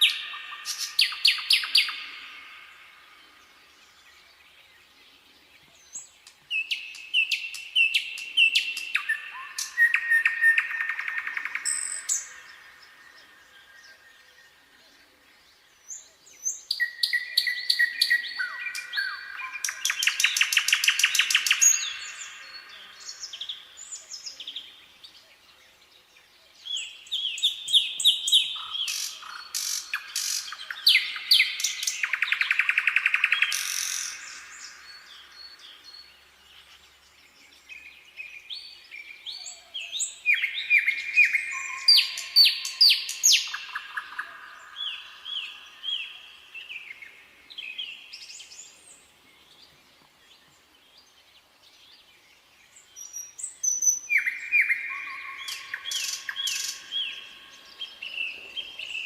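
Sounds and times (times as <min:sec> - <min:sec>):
nightingale singing trills: 0:00.0 - 0:59.0.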